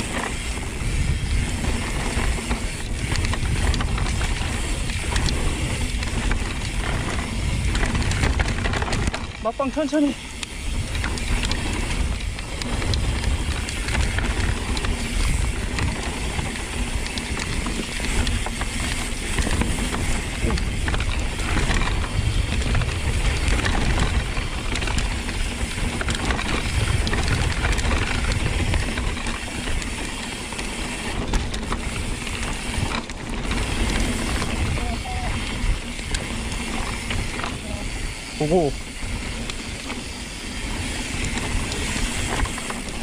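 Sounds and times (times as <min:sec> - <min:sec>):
bike rattling and clicking: 0:00.0 - 0:43.0
bike tyre noise: 0:00.0 - 0:43.0
wind rumble on microphone: 0:00.0 - 0:43.0.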